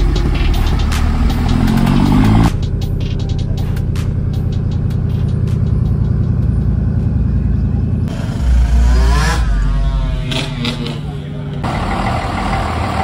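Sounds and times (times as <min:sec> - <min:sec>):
engine revving: 0:00.0 - 0:02.8, 0:03.4 - 0:13.0
diesel engine idling: 0:00.0 - 0:13.0.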